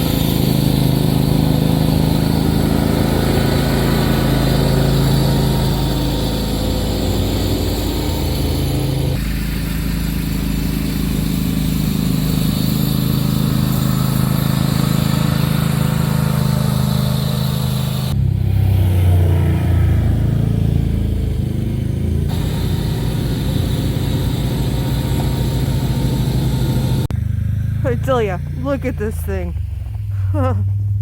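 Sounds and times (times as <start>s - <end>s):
small vehicle engine running: 0.0s - 31.0s.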